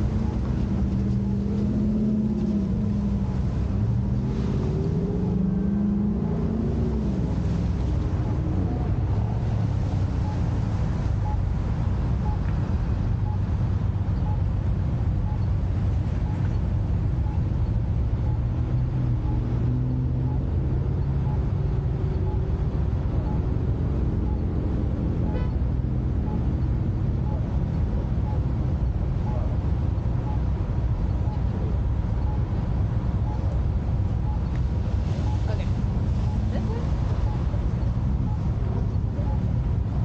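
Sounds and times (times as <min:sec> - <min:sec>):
car engines idling: 0:00.0 - 0:40.0
road noise: 0:00.0 - 0:40.0
faint regular ticking: 0:07.8 - 0:40.0.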